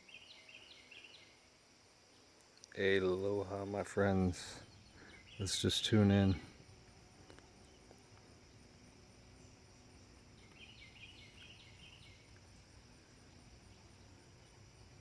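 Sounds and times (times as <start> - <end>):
faint chirps: 0.0 - 15.0.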